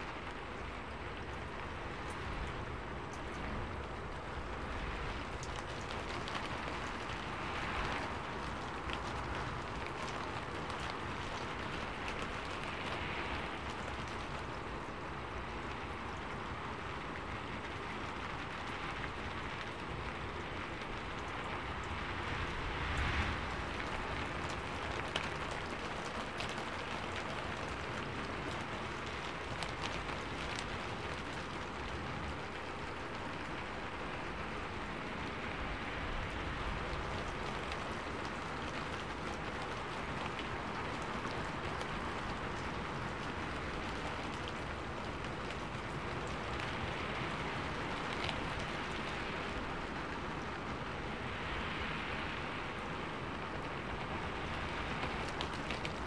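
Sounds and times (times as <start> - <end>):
raindrop ticks: 0.0 - 56.0
steady rainfall: 0.0 - 56.0.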